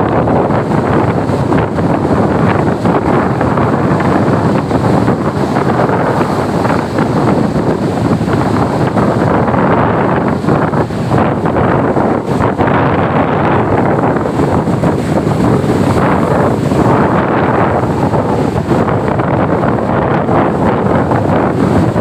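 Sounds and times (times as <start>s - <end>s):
heavy surf on shore: 0.0s - 22.0s
wind buffeting microphone: 0.0s - 22.0s.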